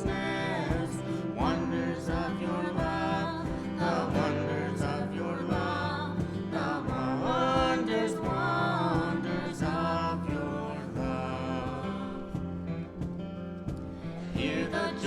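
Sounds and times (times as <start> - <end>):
singing with instruments: 0.0 - 15.0.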